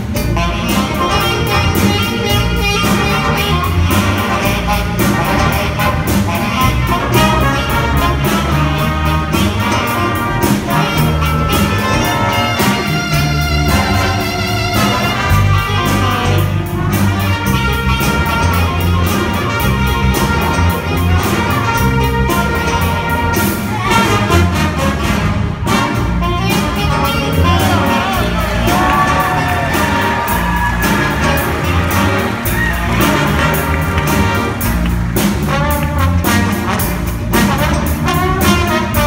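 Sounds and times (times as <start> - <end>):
drum kit beat: 0.0 - 39.0
saxophones: 0.0 - 39.0
trumpets: 0.0 - 39.0.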